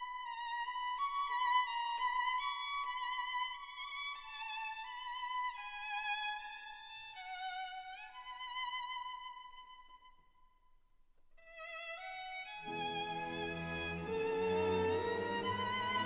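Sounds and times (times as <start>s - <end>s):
solo violin slow melody: 0.0s - 10.2s, 11.4s - 16.0s.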